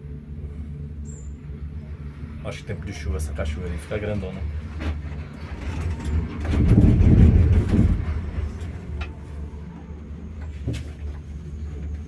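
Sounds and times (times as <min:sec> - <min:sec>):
cable car cabin humming: 0:00.0 - 0:12.0
cable car rumble: 0:00.0 - 0:12.0.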